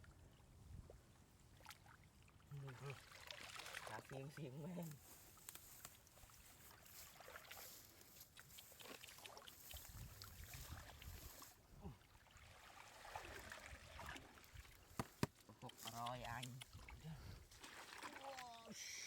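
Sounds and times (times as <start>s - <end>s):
faint water sloshing: 0.0s - 19.0s.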